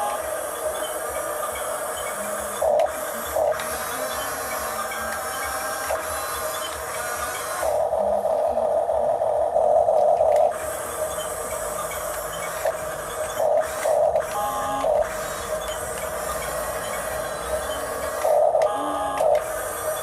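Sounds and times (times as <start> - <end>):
toy bulldozer motors whining: 0.0 - 7.9, 10.0 - 20.0.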